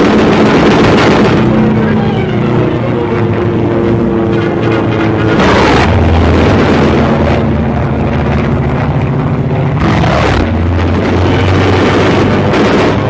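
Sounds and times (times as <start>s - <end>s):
piston aircraft engines droning: 0.0s - 13.0s.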